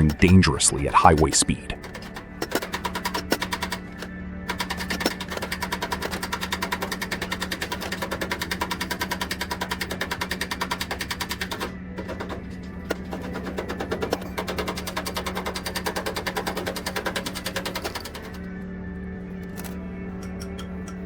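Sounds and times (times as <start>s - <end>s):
fast even clicking: 0.0s - 18.4s.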